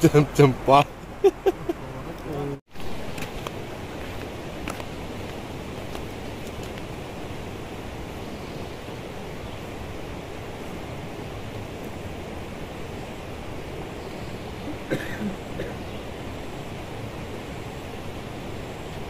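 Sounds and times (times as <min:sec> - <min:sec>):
rushing outdoor background noise: 0:00.0 - 0:19.0.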